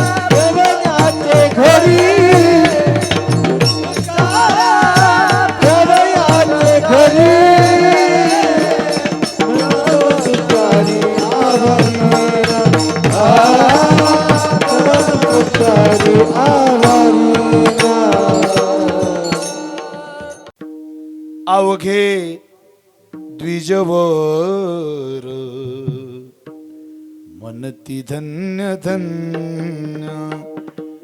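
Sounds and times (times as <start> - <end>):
person singing ornamented vocal line: 0.0 - 20.6, 23.4 - 26.4, 27.3 - 30.6
tabla strokes: 0.0 - 21.7, 23.0 - 24.0, 25.5 - 27.5, 29.0 - 31.0.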